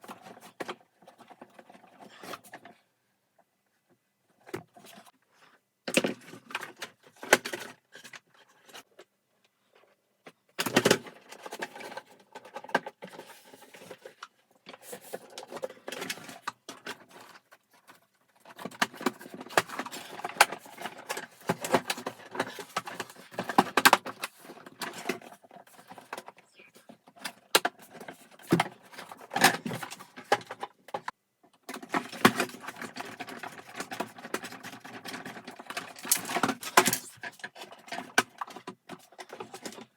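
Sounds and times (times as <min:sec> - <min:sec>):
plastic parts clicking and rattling: 0:00.0 - 0:02.8, 0:05.9 - 0:09.1, 0:09.7 - 0:39.9.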